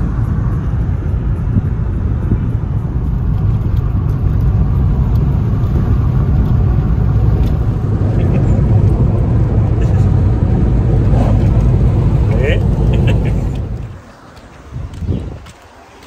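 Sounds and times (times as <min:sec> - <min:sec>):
car engine rumble in cabin: 0:00.0 - 0:14.2
road noise: 0:00.0 - 0:16.0.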